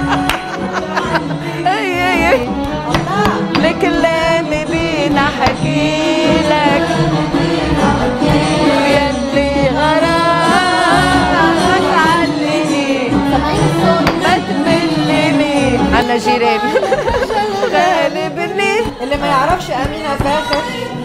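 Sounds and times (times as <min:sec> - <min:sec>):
instrumental backing: 0:00.0 - 0:21.0
person singing: 0:00.0 - 0:21.0.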